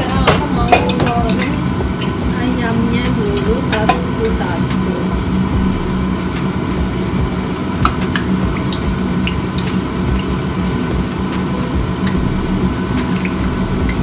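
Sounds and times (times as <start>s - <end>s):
food frying in hot oil: 0.0s - 14.0s
low hum: 0.0s - 14.0s.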